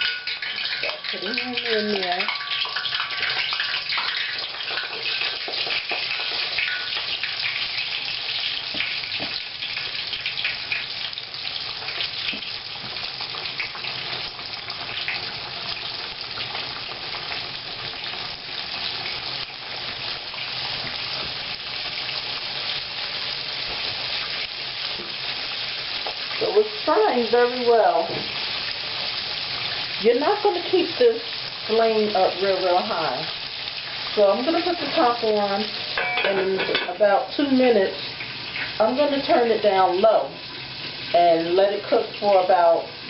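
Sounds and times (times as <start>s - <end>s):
chicken sizzling in oil: 0.0s - 43.0s.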